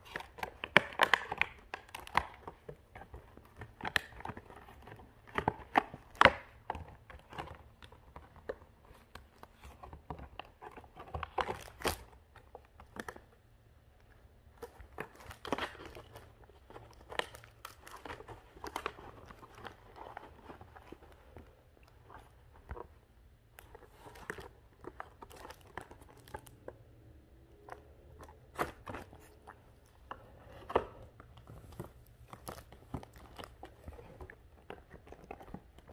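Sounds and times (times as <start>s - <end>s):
plastic packaging crinkling: 0.0s - 13.3s, 14.5s - 35.9s.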